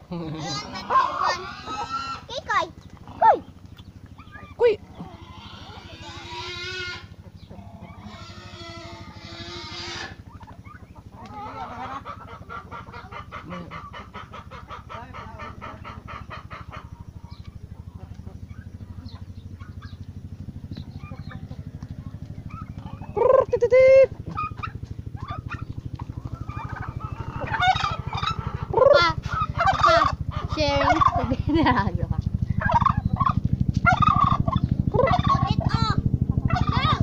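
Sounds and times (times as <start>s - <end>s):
steady low hum: 0.0s - 37.0s
turkeys gobbling: 0.0s - 37.0s.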